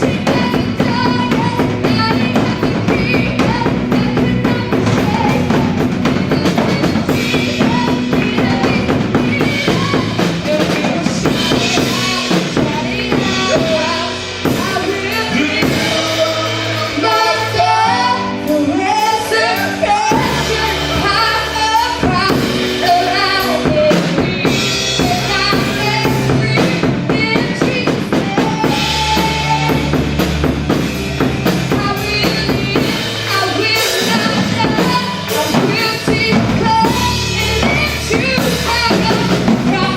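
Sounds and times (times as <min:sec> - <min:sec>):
bass guitar: 0:00.0 - 0:39.9
drum kit beat: 0:00.0 - 0:39.9
keyboard playing: 0:00.0 - 0:39.9
person singing: 0:00.0 - 0:39.9.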